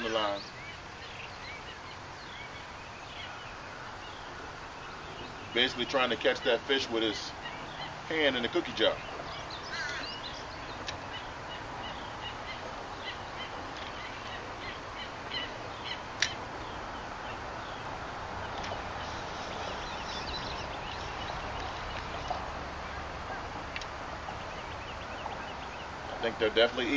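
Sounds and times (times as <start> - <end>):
birds chirping: 0.0 - 26.9
steady outdoor hiss: 0.0 - 26.9.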